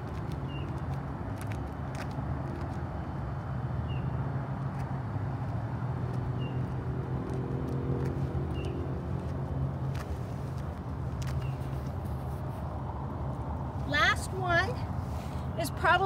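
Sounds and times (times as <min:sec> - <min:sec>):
footsteps on asphalt: 0:00.0 - 0:15.8.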